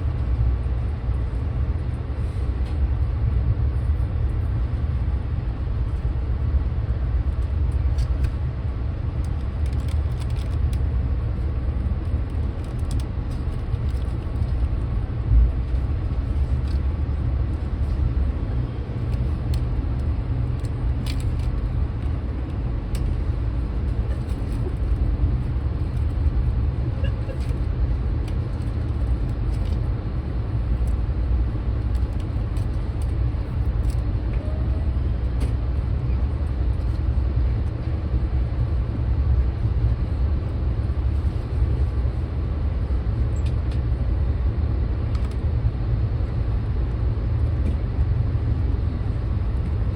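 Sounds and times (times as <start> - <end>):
moving train rumble: 0.0 - 49.9.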